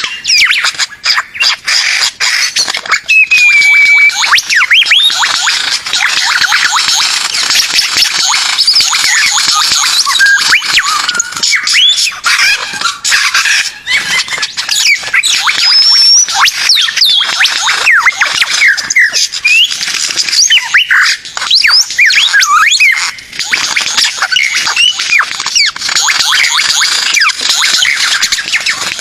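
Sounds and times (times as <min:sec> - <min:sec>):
bird chirps and whistles: 0:00.0 - 0:29.0.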